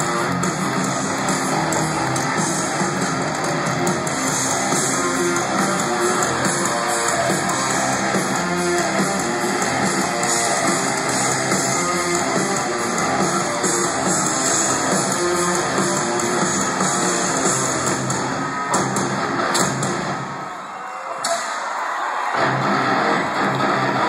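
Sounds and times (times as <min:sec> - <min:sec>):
electric guitars strumming: 0:00.0 - 0:20.2, 0:22.4 - 0:24.0
live rock band: 0:00.0 - 0:20.3, 0:22.3 - 0:24.0.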